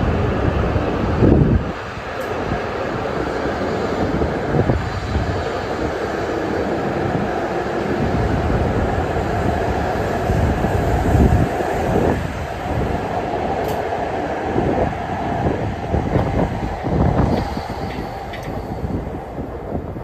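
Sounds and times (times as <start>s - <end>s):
air rushing along train: 0.0s - 20.0s
train rumbling past: 0.0s - 20.0s.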